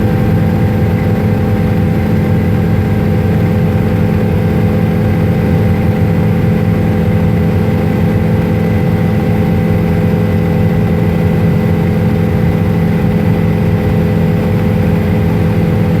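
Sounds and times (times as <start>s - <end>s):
helicopter rotor and turbine drone: 0.0s - 16.0s.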